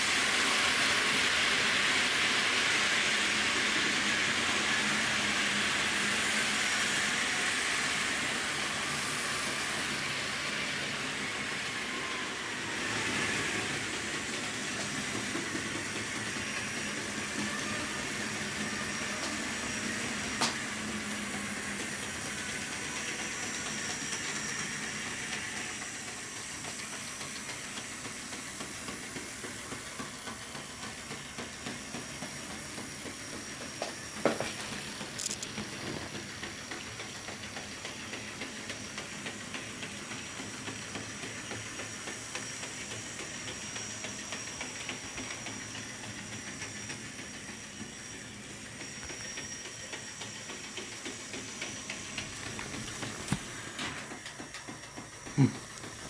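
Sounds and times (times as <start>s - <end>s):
model train whirring rattle: 0.0s - 56.0s.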